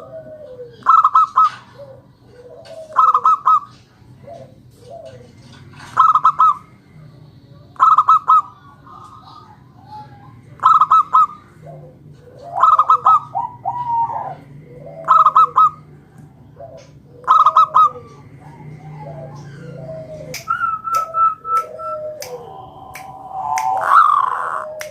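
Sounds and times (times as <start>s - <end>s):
dove cooing: 0.0s - 24.9s.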